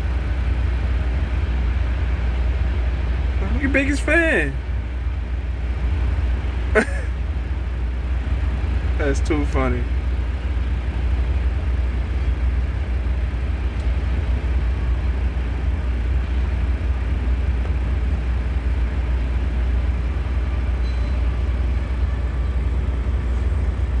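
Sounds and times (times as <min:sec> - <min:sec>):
heavy vehicles rumbling: 0:00.0 - 0:24.0.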